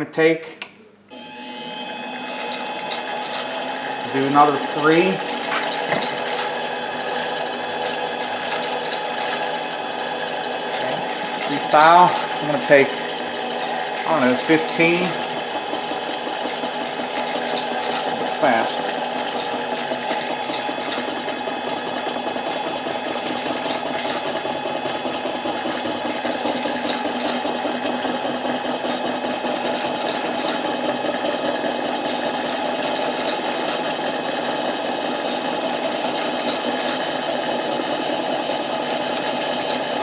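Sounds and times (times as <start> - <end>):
lathe motor whining: 1.1 - 40.0.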